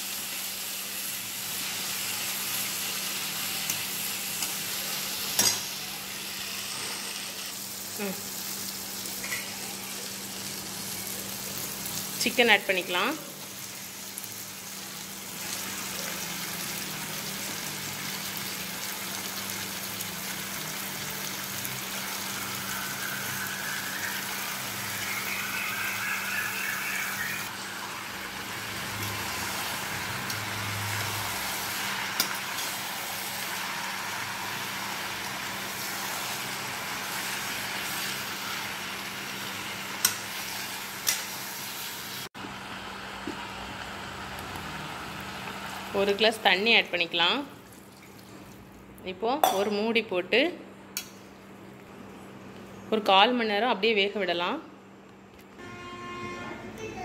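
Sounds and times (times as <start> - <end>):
chicken sizzling in hot oil: 0.0 - 46.3.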